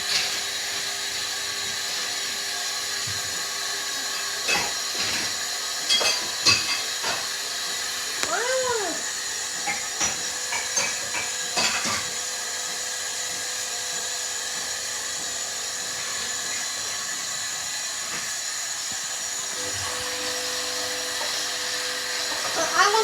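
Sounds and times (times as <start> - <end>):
washing machine drum spinning: 0.0 - 23.0.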